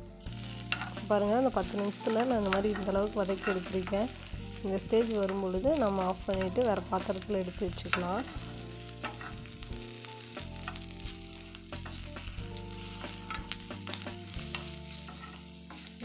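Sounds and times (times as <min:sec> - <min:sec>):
okra sizzling in oil: 0:00.0 - 0:16.0
soft instrumental music: 0:00.0 - 0:16.0
spatula scraping a pan: 0:00.4 - 0:04.4, 0:05.0 - 0:10.0, 0:10.6 - 0:16.0.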